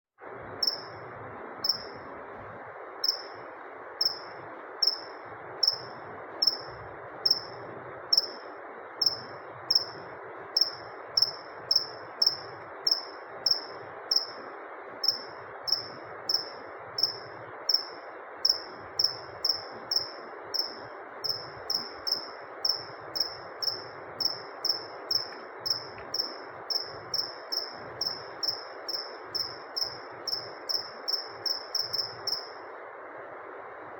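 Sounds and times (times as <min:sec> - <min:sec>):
steady hiss: 0:00.2 - 0:33.9
cricket chirping: 0:00.6 - 0:01.0, 0:01.6 - 0:02.0, 0:03.0 - 0:03.4, 0:04.0 - 0:32.6.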